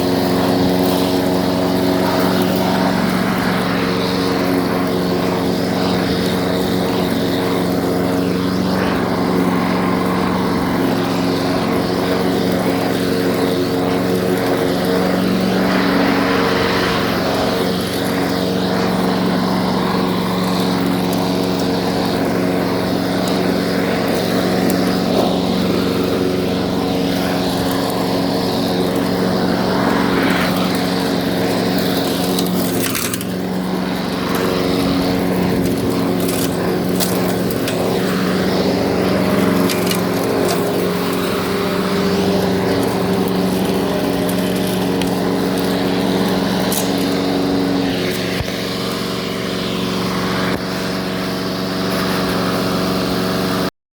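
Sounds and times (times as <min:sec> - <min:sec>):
lawn mower engine running: 0:00.0 - 0:53.7.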